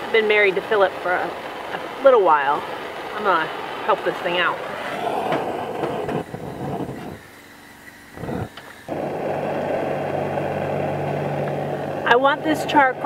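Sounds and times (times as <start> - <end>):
rushing noise with low hum: 0.0 - 7.3, 8.1 - 13.0
propane torch hissing: 0.0 - 12.9.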